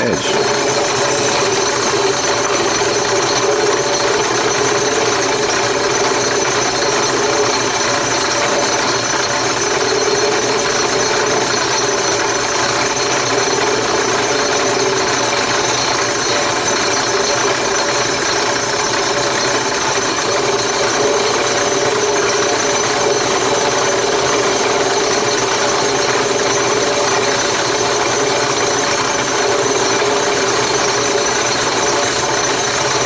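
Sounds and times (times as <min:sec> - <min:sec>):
drill press motor hum: 0:00.0 - 0:33.0
drum sanding board: 0:00.3 - 0:33.0.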